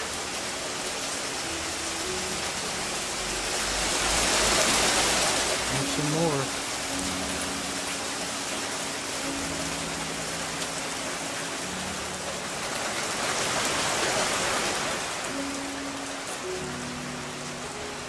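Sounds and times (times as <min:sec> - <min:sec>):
rain falling on roof and street: 0:00.0 - 0:18.0.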